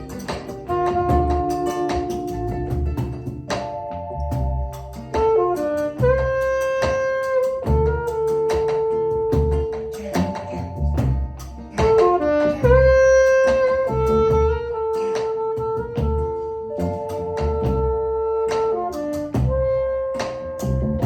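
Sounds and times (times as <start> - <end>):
band playing instrumental: 0.0 - 21.0.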